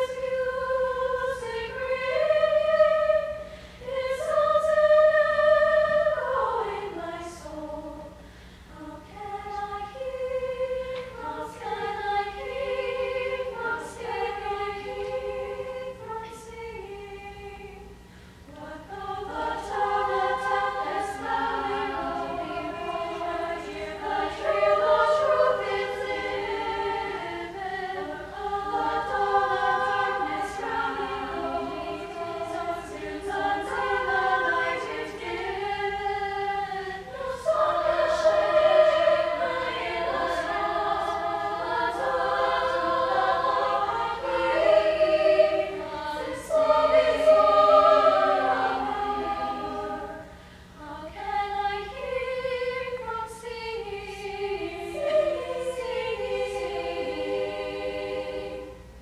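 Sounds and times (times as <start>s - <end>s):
women's choir singing: 0.0s - 59.0s.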